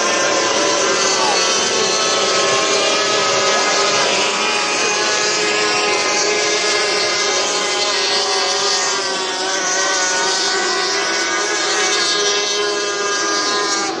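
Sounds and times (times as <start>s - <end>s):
outboard engines running flat out: 0.0s - 14.0s.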